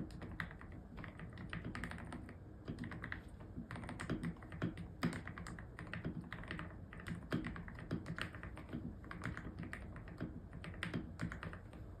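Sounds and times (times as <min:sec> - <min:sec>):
mechanical keyboard typing: 0:00.0 - 0:11.9.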